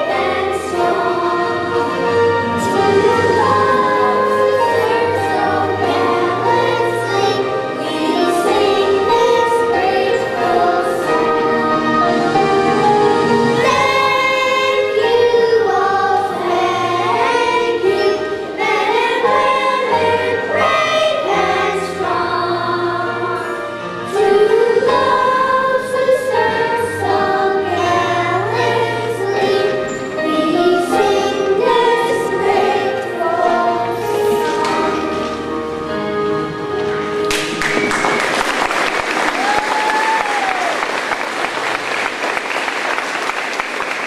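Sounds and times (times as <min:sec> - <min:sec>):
instrumental accompaniment: 0:00.0 - 0:39.8
children's choir singing: 0:00.0 - 0:44.0.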